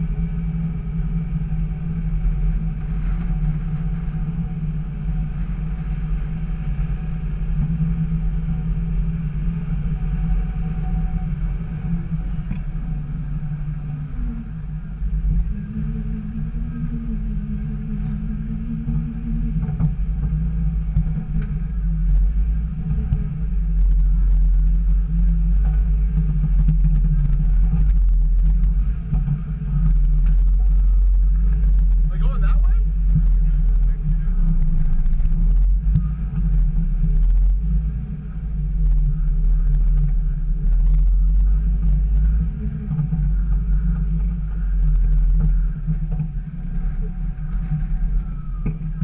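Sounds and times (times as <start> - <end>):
low engine rumble: 0.0 - 49.0.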